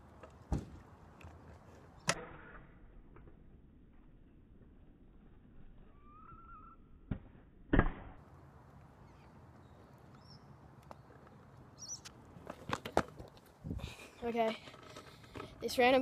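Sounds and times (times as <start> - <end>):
quiet outdoor background: 0.0 - 16.0.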